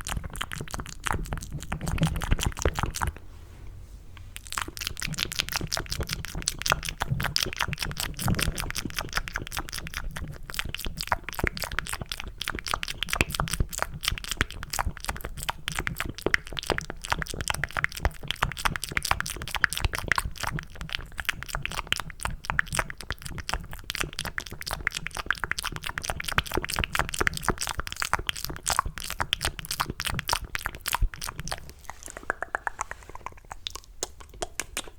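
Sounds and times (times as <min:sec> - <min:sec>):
wet sticky mouth clicks: 0:00.0 - 0:03.2, 0:04.2 - 0:34.9.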